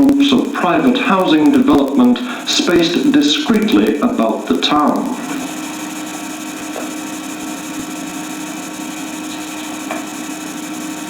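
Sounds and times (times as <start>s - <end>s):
constant low hum: 0.0s - 11.0s
steady hiss: 0.0s - 11.0s.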